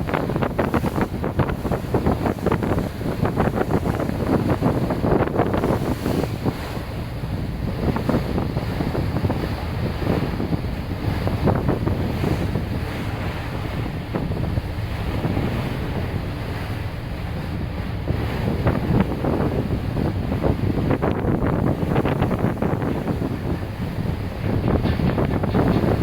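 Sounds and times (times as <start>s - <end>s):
rush of water: 0.0s - 26.0s
ship noise: 0.0s - 26.0s
wind buffeting microphone: 0.0s - 26.0s.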